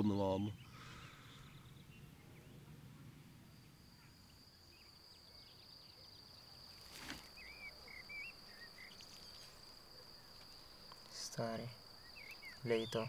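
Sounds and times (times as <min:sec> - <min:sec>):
faint insect drone: 0:00.0 - 0:13.0.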